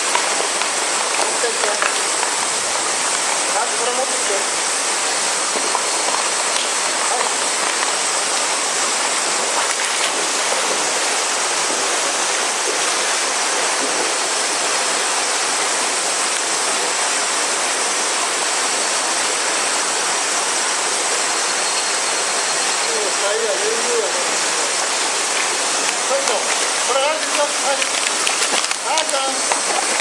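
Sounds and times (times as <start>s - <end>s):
cicadas calling: 0.0s - 30.0s
river water rushing: 0.0s - 30.0s.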